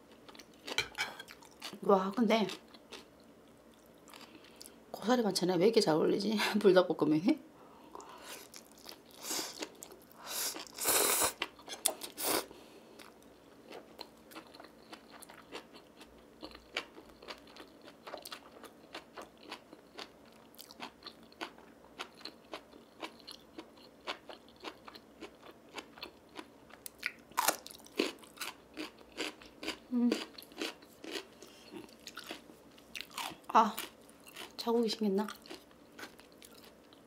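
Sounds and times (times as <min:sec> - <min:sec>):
person chewing crunchy food: 0:00.1 - 0:01.8, 0:02.5 - 0:04.8, 0:08.0 - 0:34.6, 0:35.3 - 0:37.0.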